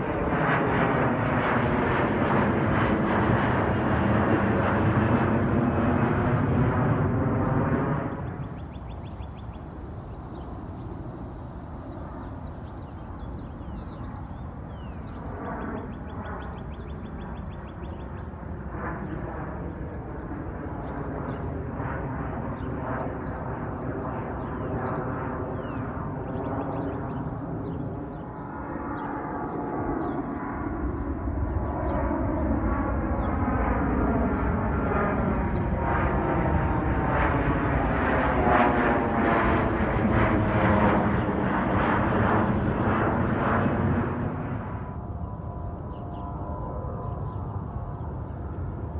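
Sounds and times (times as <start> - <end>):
jet engine rumble: 0.0 - 48.9.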